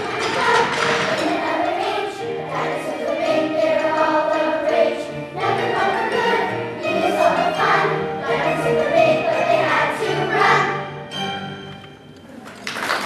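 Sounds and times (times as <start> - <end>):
children's choir singing: 0.0 - 11.8
musical accompaniment: 0.0 - 13.0.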